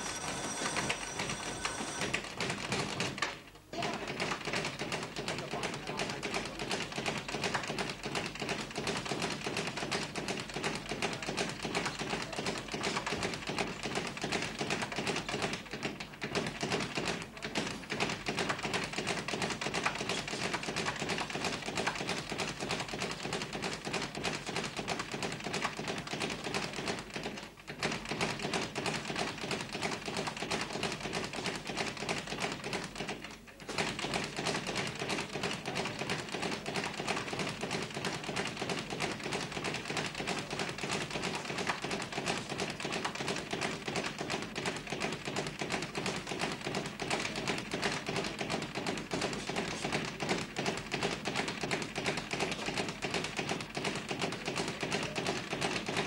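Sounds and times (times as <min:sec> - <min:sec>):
gloves and feet tapping and thudding: 0:00.0 - 0:56.0.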